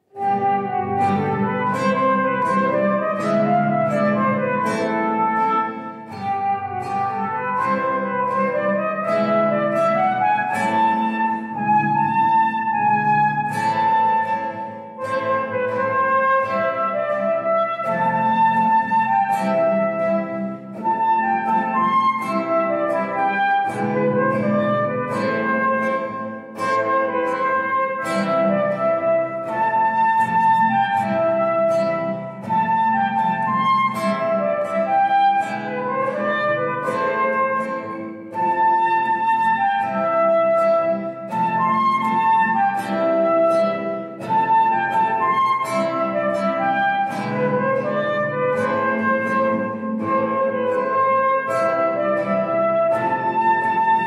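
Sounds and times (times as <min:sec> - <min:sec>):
flute melody: 0:00.0 - 0:54.0
plucked classical guitar: 0:00.0 - 0:54.0.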